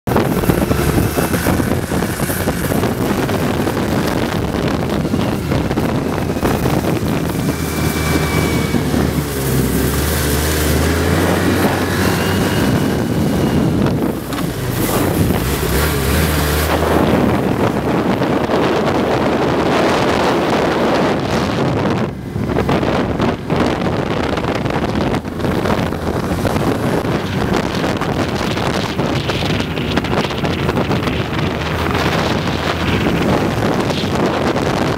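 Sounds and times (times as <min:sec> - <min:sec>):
snowmobile engine running: 0:00.1 - 0:34.9
wind buffeting microphone: 0:00.1 - 0:34.9.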